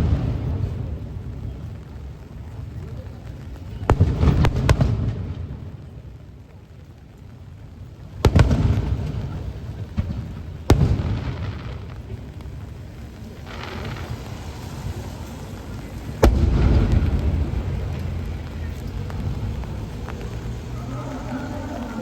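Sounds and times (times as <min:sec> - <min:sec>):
low rolling rumble: 0:00.0 - 0:22.0.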